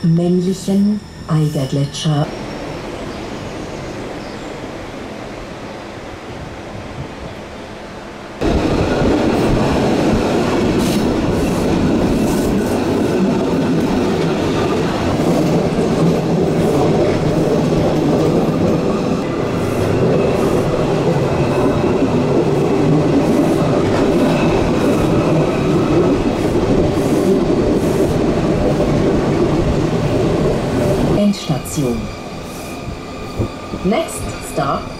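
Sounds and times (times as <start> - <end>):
train wheels rumbling on rail: 1.4 - 34.9.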